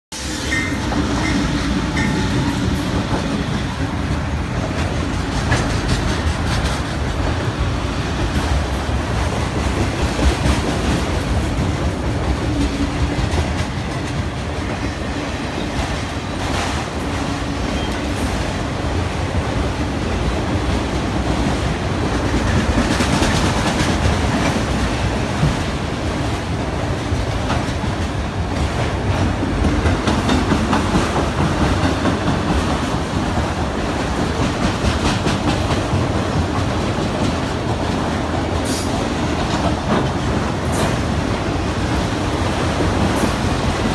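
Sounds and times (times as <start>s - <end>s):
diesel locomotives passing: 0.1s - 43.9s
train wheels rumbling on rails: 0.1s - 43.9s.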